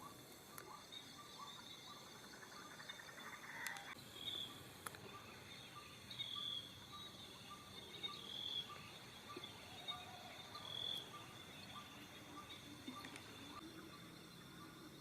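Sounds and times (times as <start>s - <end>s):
birds chirping: 0.0s - 15.0s
insects trilling: 0.0s - 15.0s.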